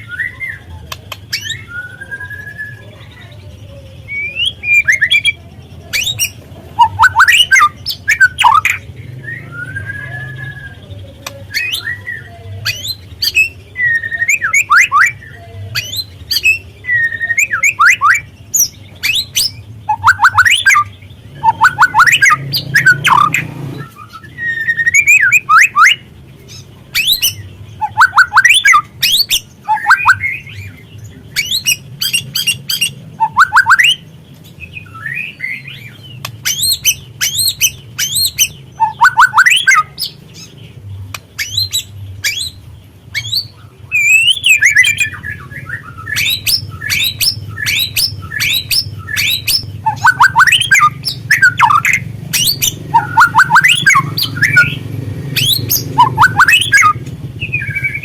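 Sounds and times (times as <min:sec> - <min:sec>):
bird singing whistles and chatter: 0:00.0 - 0:58.0.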